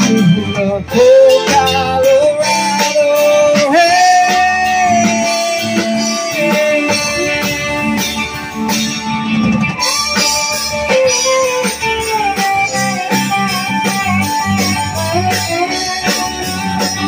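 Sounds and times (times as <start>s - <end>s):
bass: 0.0s - 17.0s
drum kit: 0.0s - 17.0s
electric guitar lead: 0.0s - 17.0s
keyboard: 0.0s - 17.0s.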